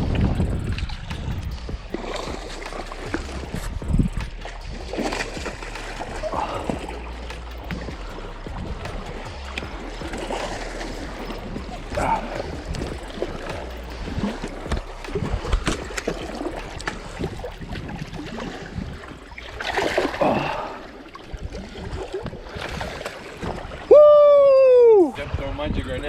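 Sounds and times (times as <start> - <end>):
water splashing and gurgling: 0.0 - 26.0.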